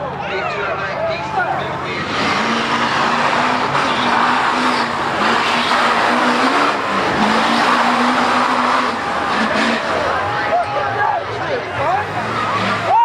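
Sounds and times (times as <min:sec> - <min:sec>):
truck engine at high revs: 0:01.4 - 0:13.0
tires spinning in mud: 0:01.9 - 0:10.9, 0:11.5 - 0:13.0.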